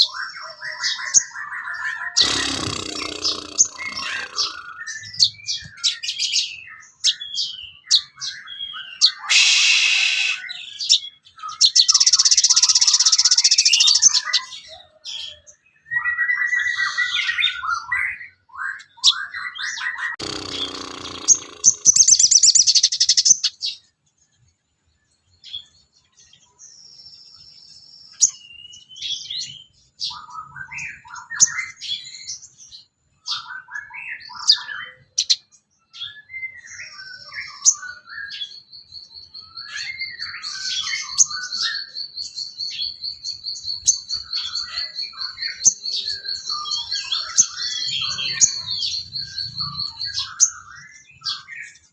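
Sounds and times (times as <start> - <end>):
bird singing chirps and trills: 0.0 - 51.9.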